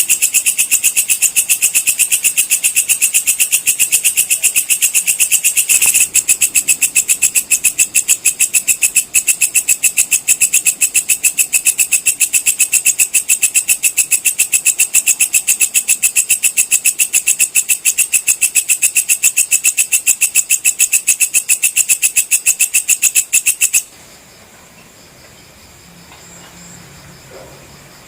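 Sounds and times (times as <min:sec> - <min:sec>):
insect fast high chirps: 0:00.0 - 0:28.0.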